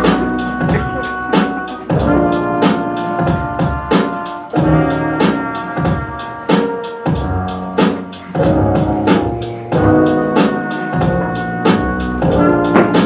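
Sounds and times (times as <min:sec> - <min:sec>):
percussive beat: 0:00.0 - 0:13.0.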